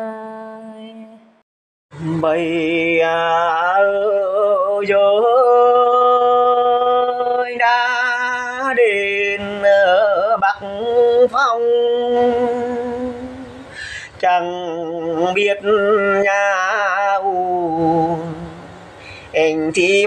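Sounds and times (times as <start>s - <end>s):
solo folk singing voice: 2.0s - 20.0s.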